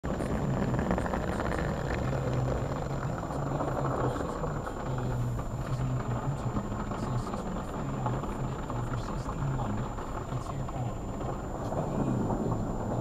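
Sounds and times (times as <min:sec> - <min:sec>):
car wash water spraying: 0:00.0 - 0:13.0
low mechanical hum: 0:00.0 - 0:13.0.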